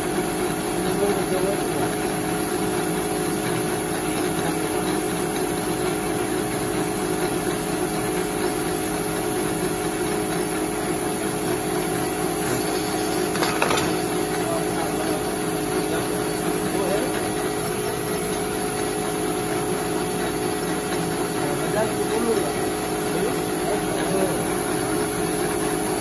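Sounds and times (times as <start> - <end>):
folding machine humming: 0.0 - 26.0.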